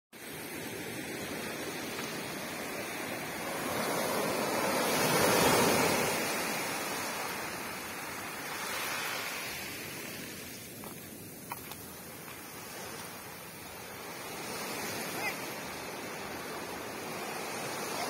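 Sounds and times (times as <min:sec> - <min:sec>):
waves washing over shells: 0:00.2 - 0:18.0.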